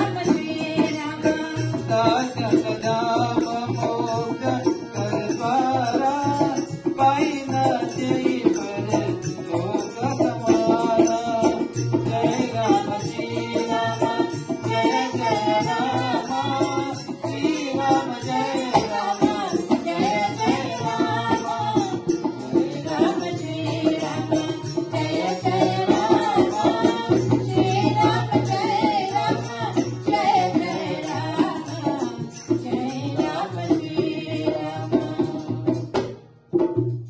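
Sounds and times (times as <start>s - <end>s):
hand drum rhythm: 0.0s - 37.0s.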